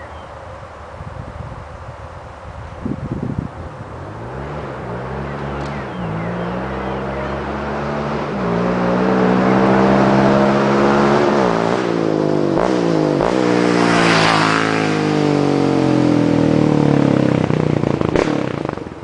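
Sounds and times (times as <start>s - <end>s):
quad engine accelerating: 2.9s - 19.0s.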